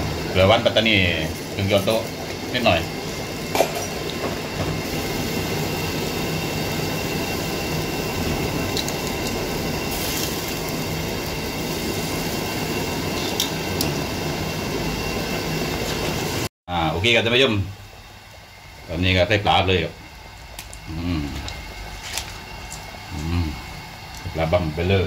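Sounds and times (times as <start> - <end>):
broth boiling in a pot: 0.0 - 25.0.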